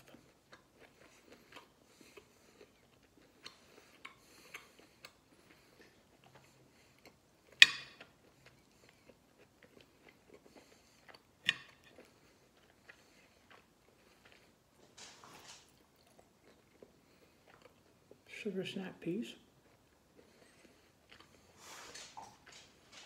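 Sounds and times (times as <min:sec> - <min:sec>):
person chewing: 0:00.0 - 0:18.4, 0:19.4 - 0:23.0.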